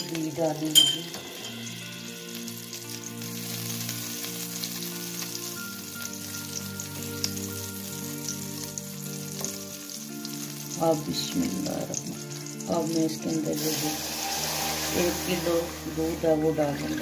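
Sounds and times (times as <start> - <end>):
ghee sizzling in a pan: 0.0 - 17.0
soft background music: 0.0 - 17.0.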